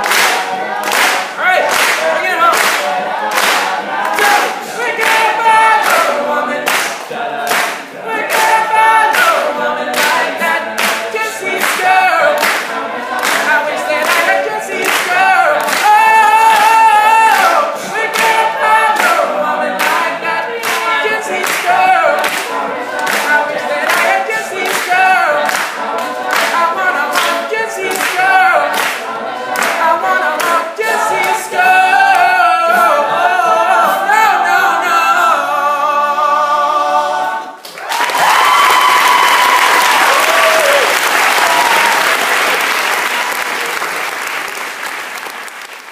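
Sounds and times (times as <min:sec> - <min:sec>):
male a cappella group singing: 0:00.0 - 0:37.6.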